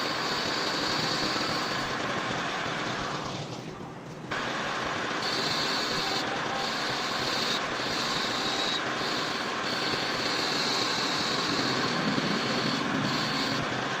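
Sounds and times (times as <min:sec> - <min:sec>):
metal lathe whining: 0:00.0 - 0:03.1, 0:04.3 - 0:14.0.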